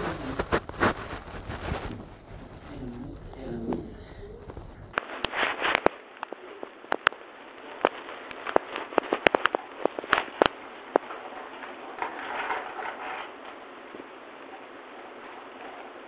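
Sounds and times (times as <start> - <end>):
soft rustle: 0.0 - 16.0.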